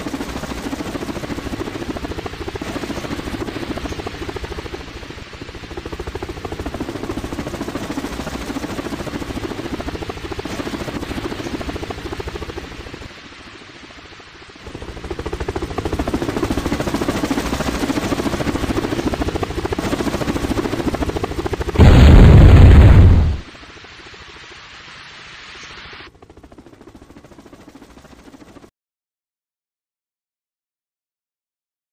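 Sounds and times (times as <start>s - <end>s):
helicopter rotor blades chopping: 0.0s - 24.2s, 26.1s - 28.7s.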